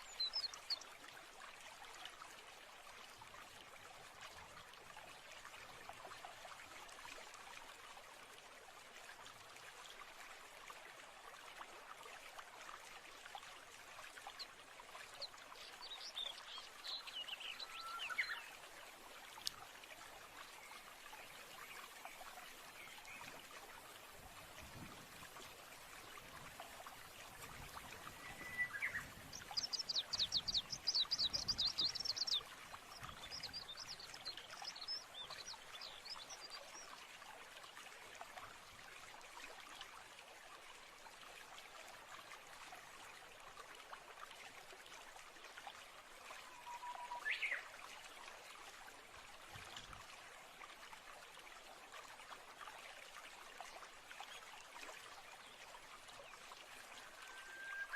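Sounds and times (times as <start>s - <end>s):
stream trickling: 0.0s - 57.9s.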